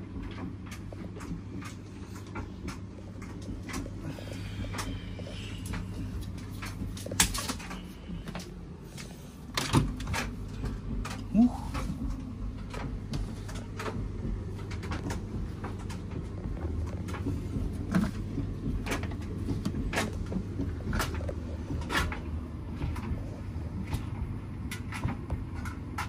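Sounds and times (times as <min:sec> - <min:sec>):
washing machine hum: 0:00.0 - 0:26.0.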